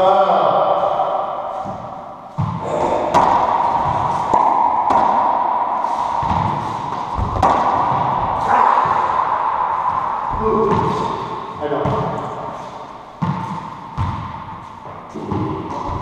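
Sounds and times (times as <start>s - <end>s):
racquetball hits echoing: 0.4s - 16.0s.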